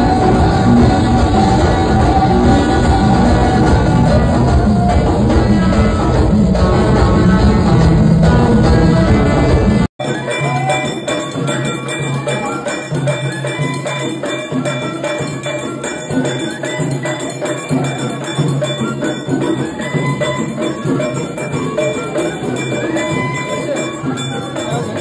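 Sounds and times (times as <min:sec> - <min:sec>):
music with bell-like metal percussion: 0:00.0 - 0:25.0.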